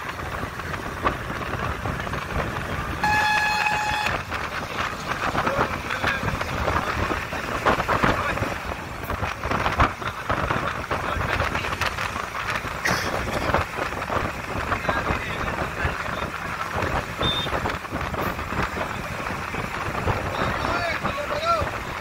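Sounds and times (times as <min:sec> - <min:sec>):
vehicle rumble: 0:00.0 - 0:22.0
wind buffeting microphone: 0:00.0 - 0:22.0.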